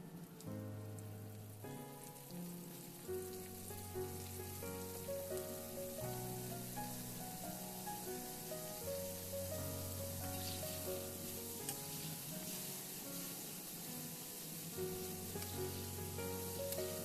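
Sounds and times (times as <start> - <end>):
mushrooms deep-frying in hot oil: 0.0 - 17.0
soft piano music: 0.0 - 17.0.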